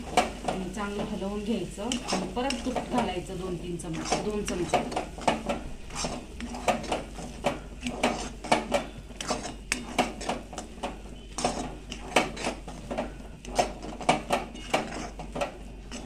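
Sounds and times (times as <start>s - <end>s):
spatula scraping metal pan: 0.0s - 16.0s.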